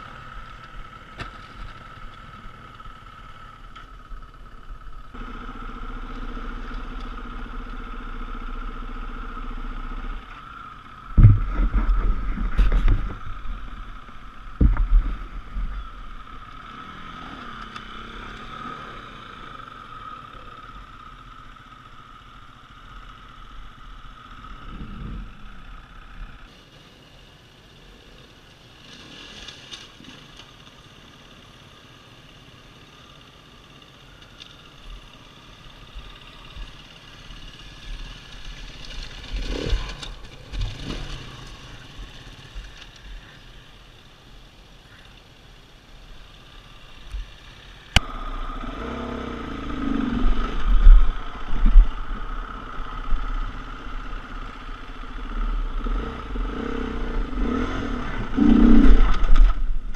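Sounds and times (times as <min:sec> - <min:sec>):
dirt bike engine running: 0:00.0 - 0:28.8, 0:29.8 - 0:59.9.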